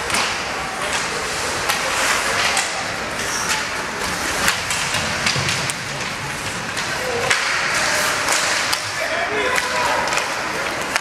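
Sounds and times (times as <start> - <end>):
hockey sticks and puck clacking: 0.0 - 11.0
skates scraping ice: 0.1 - 11.0.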